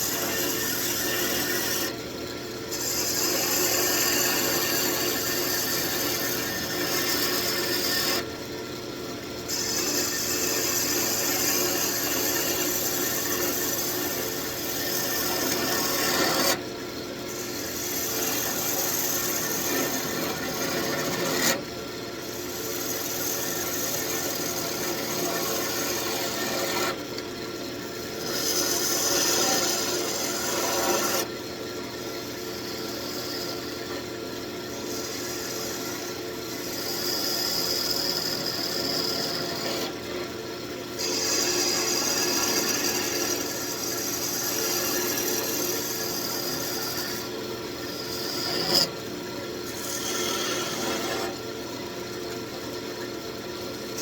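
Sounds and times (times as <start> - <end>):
turning tool shaving wood: 0.0 - 2.0, 2.7 - 8.3, 9.5 - 16.6, 17.3 - 21.6, 22.2 - 27.0, 27.6 - 31.3, 32.0 - 40.1, 41.0 - 51.4
wood lathe humming: 0.0 - 2.0, 2.7 - 8.4, 9.5 - 16.6, 17.3 - 21.6, 22.2 - 27.0, 27.8 - 31.4, 32.3 - 34.0, 34.7 - 40.0, 41.0 - 51.4.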